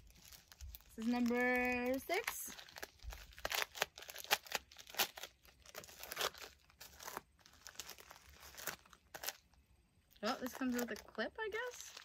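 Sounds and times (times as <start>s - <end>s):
seed packet crinkling and tearing: 0.0s - 12.0s.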